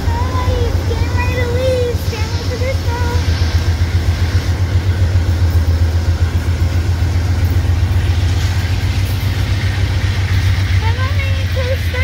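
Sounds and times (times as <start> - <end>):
diesel locomotives idling: 0.0 - 12.0.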